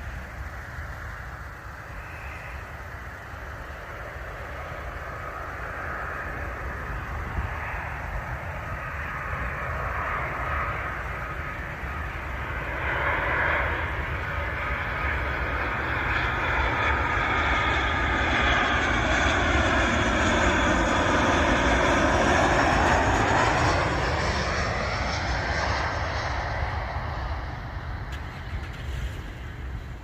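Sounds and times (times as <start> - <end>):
jet engines passing overhead: 0.0 - 30.0.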